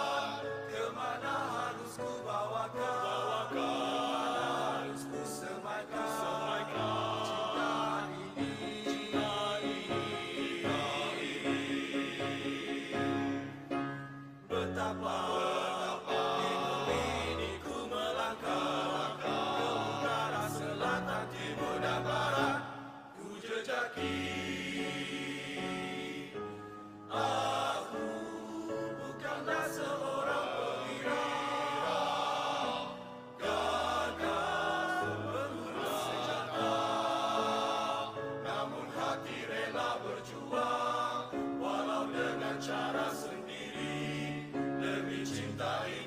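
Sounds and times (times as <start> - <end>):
male choir singing: 0.0 - 46.0.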